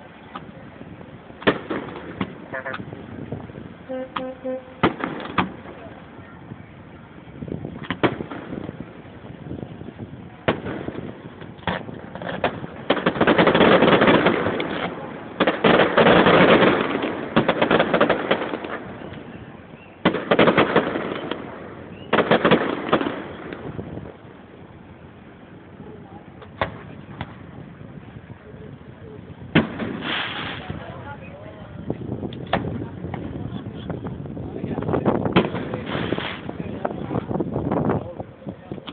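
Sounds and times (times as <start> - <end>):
fireworks crackling: 0.0 - 38.9
fireworks bangs: 1.4 - 6.2, 7.6 - 24.7, 26.4 - 27.9, 29.3 - 38.2.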